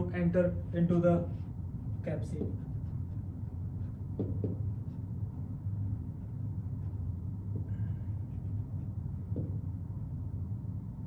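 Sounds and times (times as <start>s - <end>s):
marker writing on whiteboard: 0.0s - 9.8s
low room hum: 0.0s - 11.0s.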